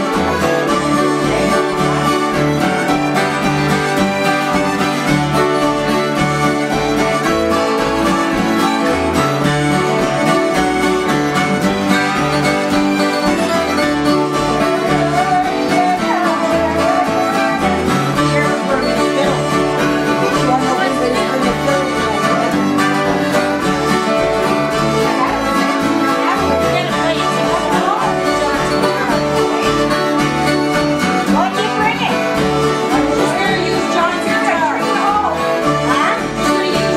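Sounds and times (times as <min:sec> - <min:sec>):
acoustic guitars strumming: 0:00.0 - 0:36.9
fiddle melody: 0:00.0 - 0:36.9.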